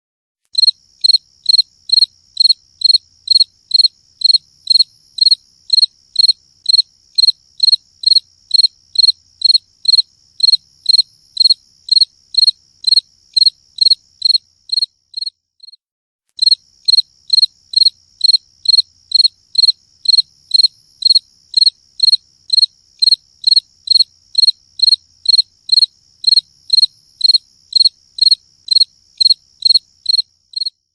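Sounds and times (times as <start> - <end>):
cricket chirping: 0.6 - 15.8, 16.4 - 30.9.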